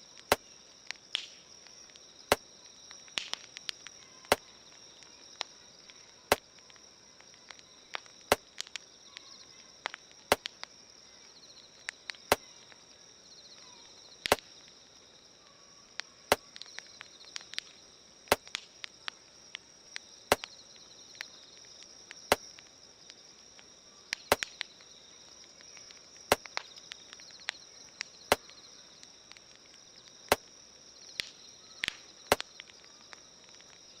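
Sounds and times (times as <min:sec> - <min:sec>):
sharp wood pops: 0:00.0 - 0:10.8, 0:11.8 - 0:12.8, 0:14.2 - 0:14.8, 0:15.9 - 0:30.5, 0:31.1 - 0:33.9
campfire crackling: 0:00.0 - 0:34.0
crickets chirring: 0:00.0 - 0:34.0.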